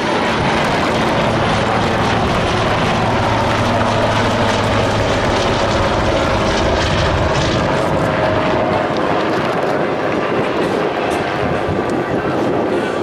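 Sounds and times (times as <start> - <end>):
helicopter rotor and engine noise: 0.0 - 13.0.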